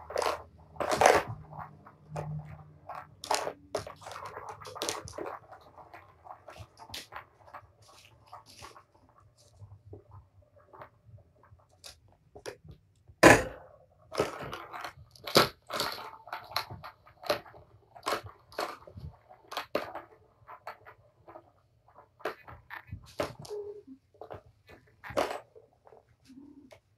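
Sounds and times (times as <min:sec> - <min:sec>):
plastic ball toy clattering: 0:00.0 - 0:26.9.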